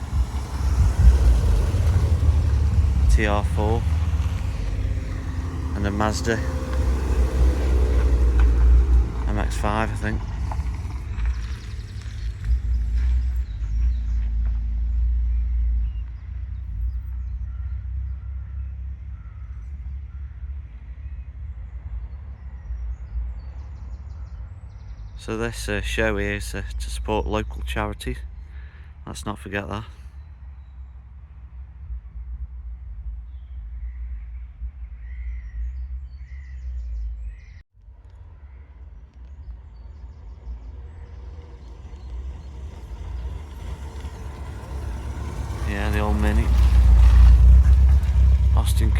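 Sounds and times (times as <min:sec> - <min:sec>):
bird chirping: 0:00.0 - 0:30.9, 0:33.3 - 0:37.6, 0:38.2 - 0:48.9
cars driving slowly past: 0:00.0 - 0:48.9
low rumble: 0:00.0 - 0:48.9.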